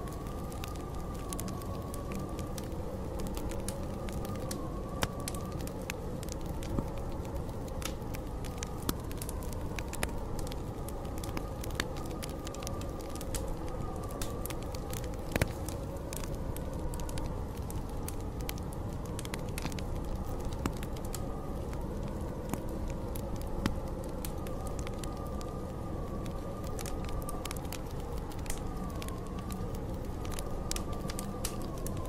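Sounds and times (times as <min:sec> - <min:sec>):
faint wavering wind howl: 0:00.0 - 0:32.0
storm wind rumble: 0:00.0 - 0:32.0
wood fire crackling: 0:00.0 - 0:32.0.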